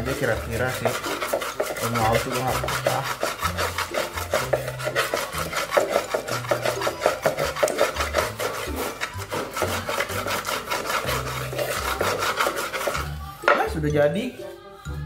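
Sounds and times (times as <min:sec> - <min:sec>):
pestle grinding in mortar: 0:00.0 - 0:13.7.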